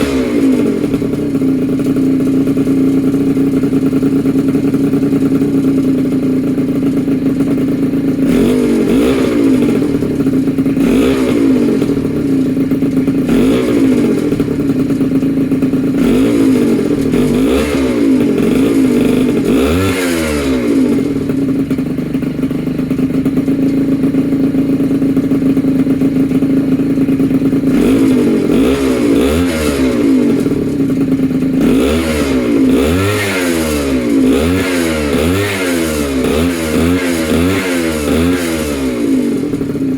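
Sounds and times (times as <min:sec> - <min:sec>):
two-stroke engine idling with throttle blips: 0:00.0 - 0:39.9.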